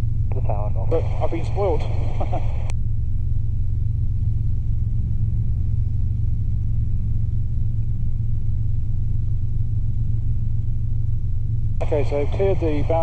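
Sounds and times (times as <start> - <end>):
helicopter engine and rotors drone: 0.0 - 13.0.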